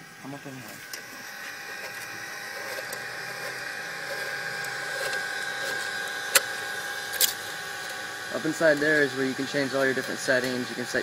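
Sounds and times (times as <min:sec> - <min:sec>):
cooling fans humming and whining: 0:00.0 - 0:11.0.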